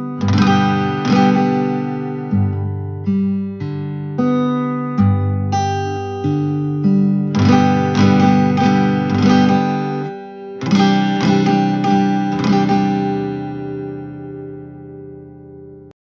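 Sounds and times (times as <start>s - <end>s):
acoustic guitar chord strokes: 0.0s - 15.9s.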